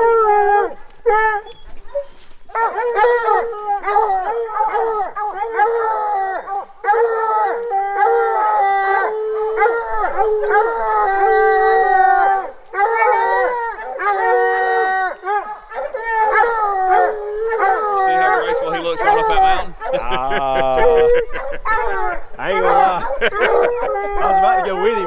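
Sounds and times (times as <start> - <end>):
hound howling: 0.0 - 25.0.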